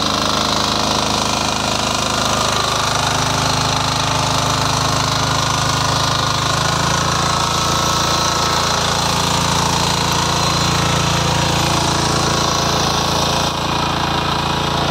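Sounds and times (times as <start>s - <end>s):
small engine running: 0.0s - 14.9s.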